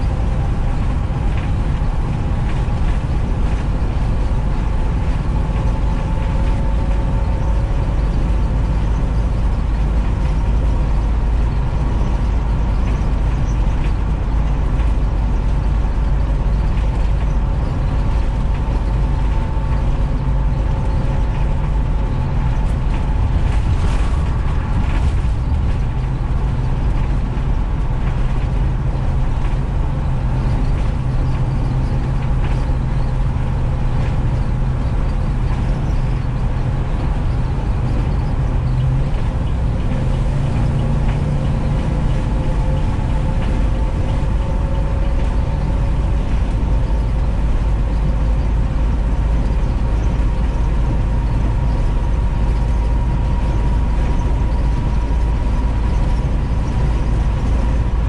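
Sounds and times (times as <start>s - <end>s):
bus engine and road drone: 0.0s - 58.0s
faint whine: 0.0s - 58.0s
light rattles: 0.0s - 58.0s.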